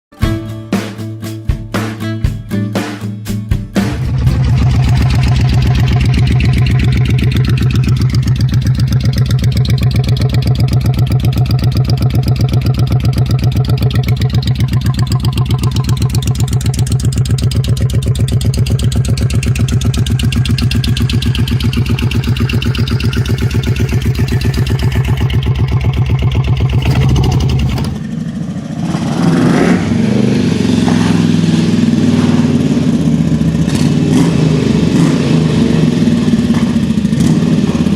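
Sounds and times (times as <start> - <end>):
motorcycle engine idling: 3.8 - 37.9
motorcycle engine revving: 3.8 - 37.9.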